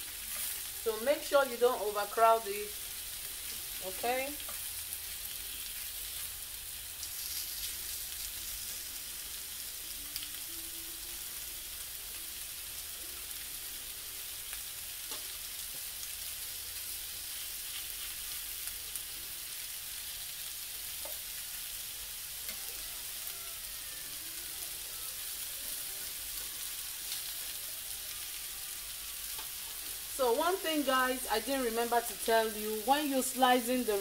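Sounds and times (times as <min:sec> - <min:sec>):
meat sizzling on a grill: 0:00.0 - 0:34.0.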